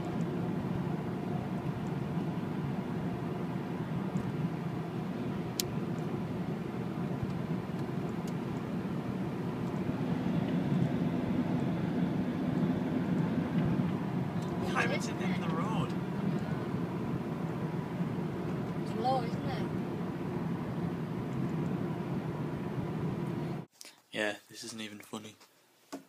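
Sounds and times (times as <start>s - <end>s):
car engine and tyre drone: 0.0s - 23.7s.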